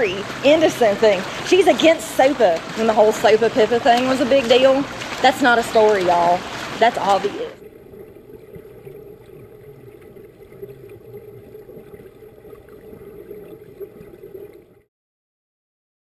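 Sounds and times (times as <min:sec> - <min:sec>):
underwater watery rumble: 0:00.0 - 0:14.9.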